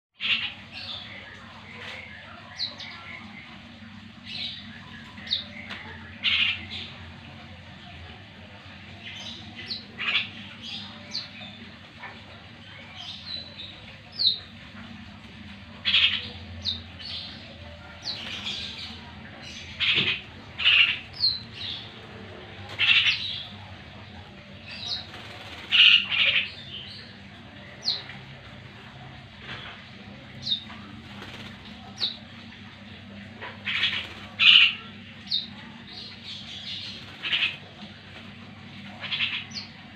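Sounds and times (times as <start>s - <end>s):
low steady hum: 0.2s - 39.9s
orioles squawking and calling: 0.2s - 39.9s.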